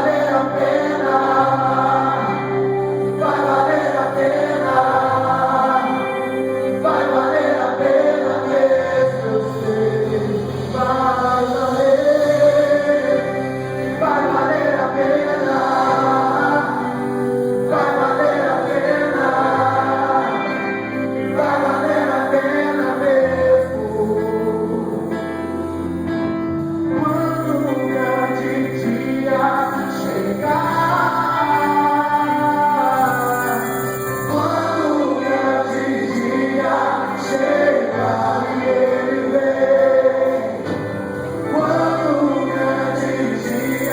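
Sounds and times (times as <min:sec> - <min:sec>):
group singing worship song: 0:00.0 - 0:26.1, 0:26.8 - 0:43.9.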